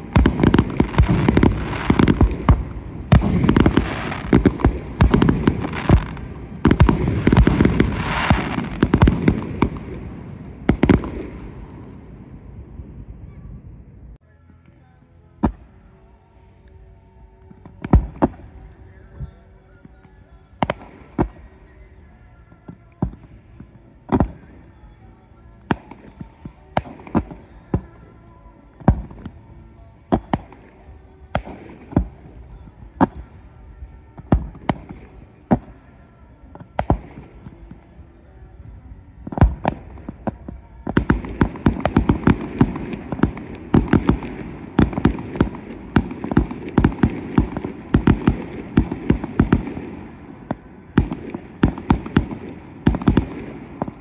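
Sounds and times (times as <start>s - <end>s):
fireworks bangs and crackles: 0.0s - 13.4s, 17.5s - 21.6s, 22.6s - 24.9s, 25.6s - 28.1s, 28.7s - 29.5s, 30.1s - 35.9s, 36.5s - 37.9s, 39.2s - 54.0s.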